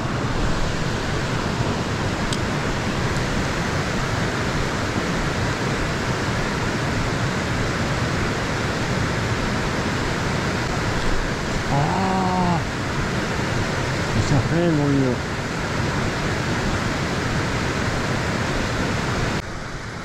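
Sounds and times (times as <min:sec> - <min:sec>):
river water rushing over weir: 0:00.0 - 0:20.0.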